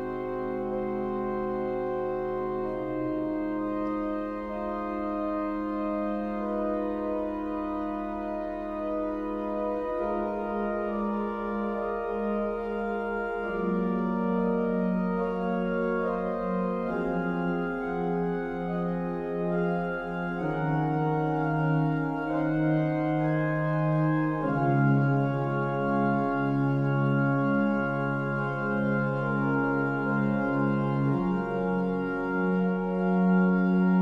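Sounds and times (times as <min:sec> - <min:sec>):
pipe organ chords: 0:00.0 - 0:34.0.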